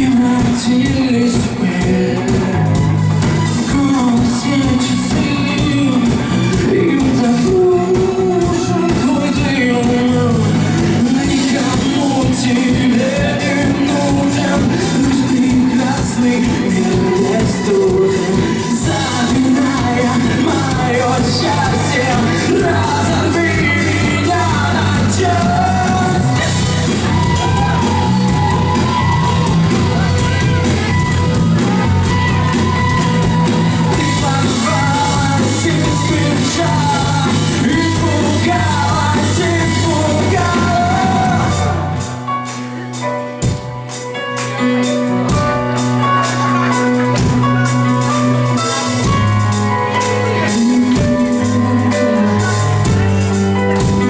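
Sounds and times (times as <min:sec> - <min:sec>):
live band music: 0:00.0 - 0:54.0
person singing: 0:00.0 - 0:54.0
sustained bass and guitar notes: 0:00.0 - 0:54.0.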